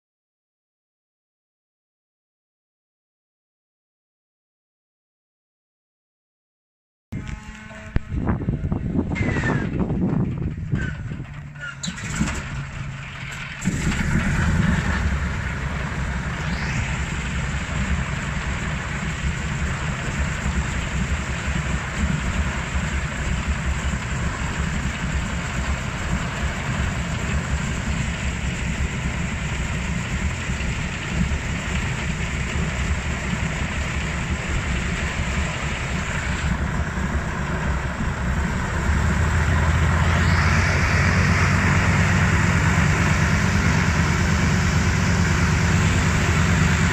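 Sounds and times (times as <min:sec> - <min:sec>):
radial engine rumbling: 0:07.2 - 0:46.9.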